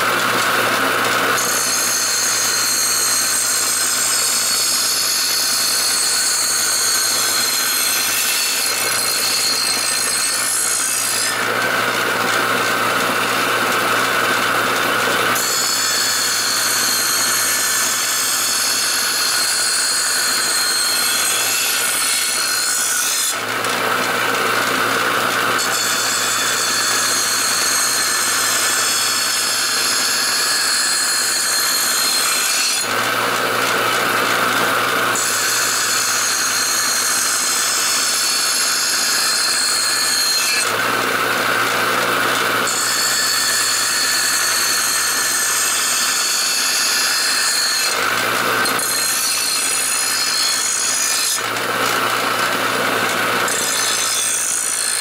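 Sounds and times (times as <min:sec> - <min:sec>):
blade grinding on grinder wheel: 0:00.0 - 0:55.0
grinder motor hum: 0:00.0 - 0:55.0.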